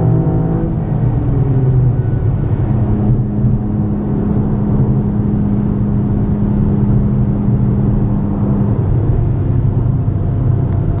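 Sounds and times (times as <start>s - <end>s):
car engine drone in cabin: 0.0s - 11.0s.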